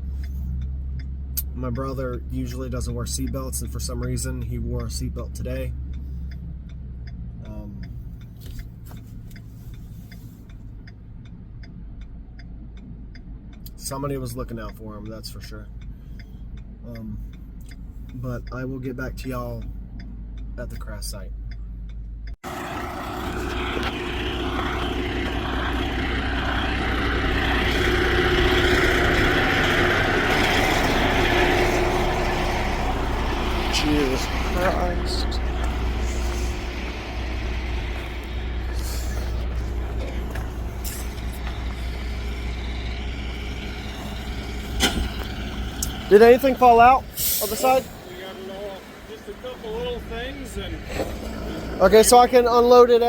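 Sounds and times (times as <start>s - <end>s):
regular light ticking: 0.0s - 22.4s, 23.4s - 47.4s
road and wind noise: 0.0s - 53.0s
vehicle engine rumble: 0.0s - 53.0s.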